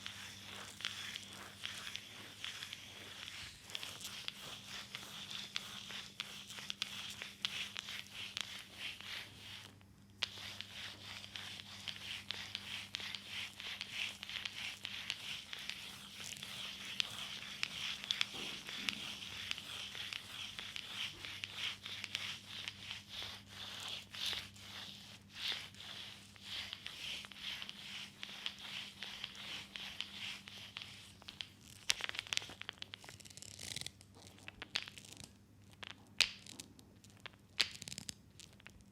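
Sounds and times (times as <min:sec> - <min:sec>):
oiled hands rubbing skin: 0:00.0 - 0:38.9.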